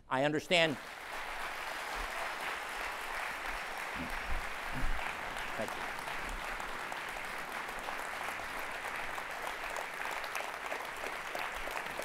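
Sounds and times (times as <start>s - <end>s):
audience applauding: 0.6s - 12.0s.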